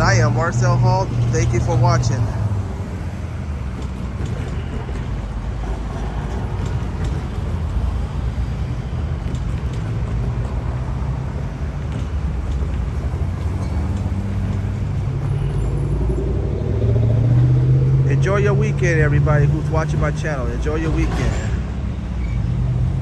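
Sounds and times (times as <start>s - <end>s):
low rumble of vehicles: 0.0s - 23.0s.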